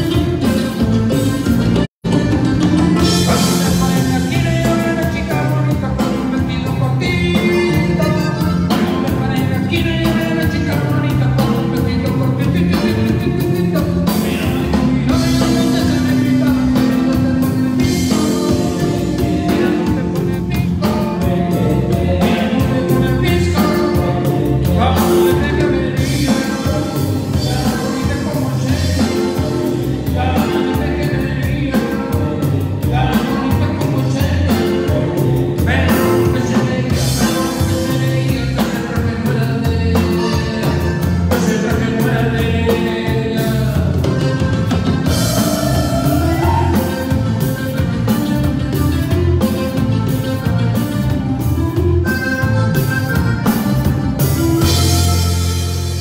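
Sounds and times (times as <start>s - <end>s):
person singing: 0.0s - 50.8s
live band playing: 0.0s - 56.0s.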